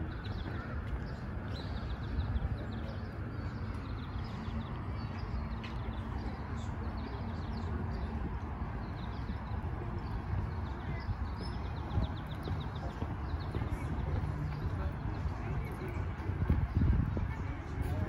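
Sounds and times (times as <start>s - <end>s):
birds chirping: 0.0s - 18.0s
steady low rumble: 0.0s - 18.0s.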